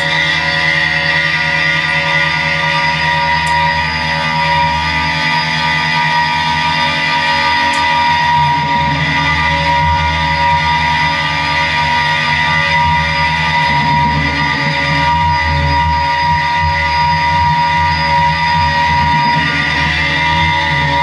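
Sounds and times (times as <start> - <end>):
electric guitar drone: 0.0 - 21.0.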